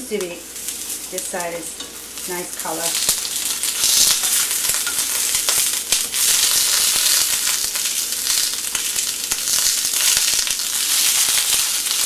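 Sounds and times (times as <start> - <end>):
eggplant sizzling in hot oil: 0.0 - 12.0.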